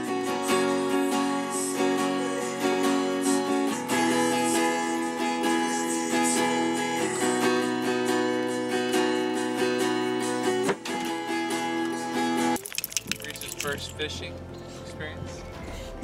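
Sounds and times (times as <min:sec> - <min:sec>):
acoustic guitar plucked chords: 0:00.0 - 0:15.6.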